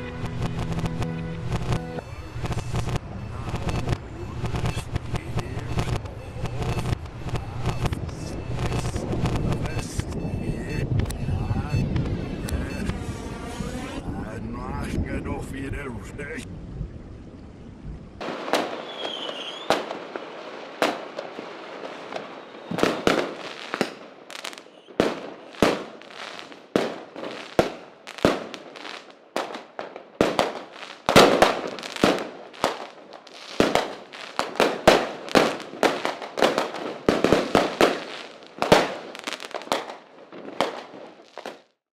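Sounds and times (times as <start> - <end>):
fireworks bangs and crackling: 0.0 - 14.0, 18.2 - 41.8
firework whistling: 0.0 - 14.2, 18.2 - 40.0.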